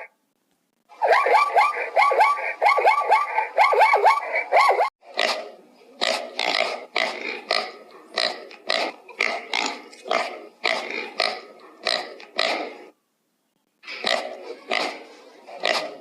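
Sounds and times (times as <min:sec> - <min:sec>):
animal giving rough calls: 0:00.9 - 0:13.0, 0:13.8 - 0:16.0.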